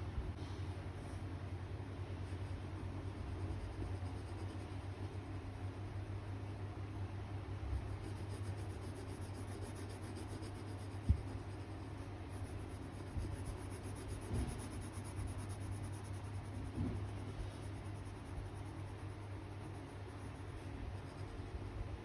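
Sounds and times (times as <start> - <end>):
steady low hum: 0.0 - 22.0
pencil scratching on paper: 2.3 - 6.4, 7.8 - 21.7.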